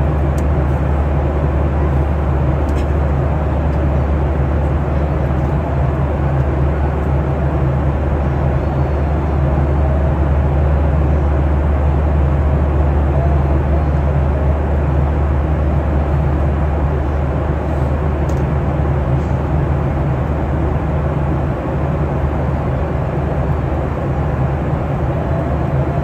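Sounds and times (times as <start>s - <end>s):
airliner cabin rumble and hiss: 0.0s - 26.0s.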